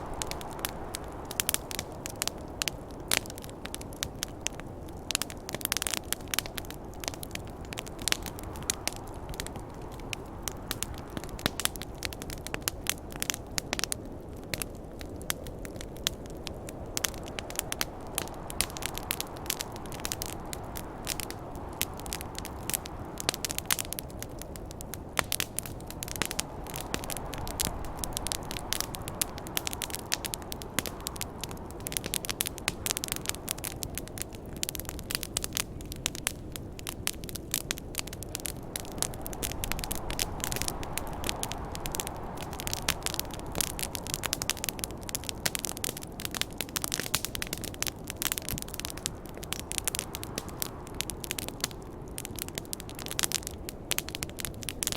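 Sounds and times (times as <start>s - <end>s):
campfire crackling and popping: 0.0s - 54.9s
rushing snowstorm wind: 0.0s - 54.9s.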